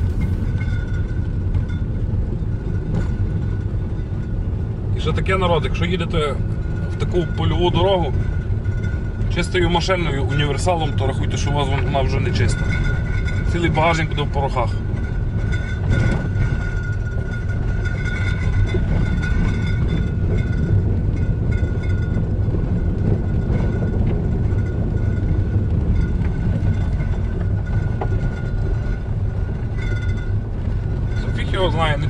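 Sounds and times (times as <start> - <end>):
tyre and road rumble: 0.0 - 32.0.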